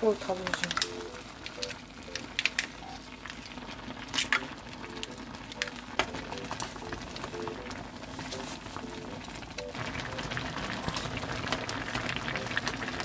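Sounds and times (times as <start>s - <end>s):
broth bubbling: 1.2s - 13.0s.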